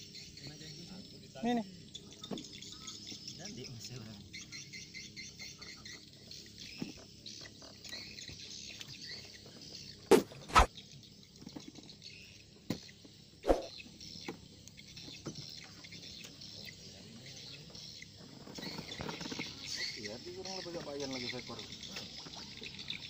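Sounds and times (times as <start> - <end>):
birds chirping: 0.0 - 10.7, 11.9 - 23.0
insects chirping: 0.0 - 11.3, 12.0 - 23.0.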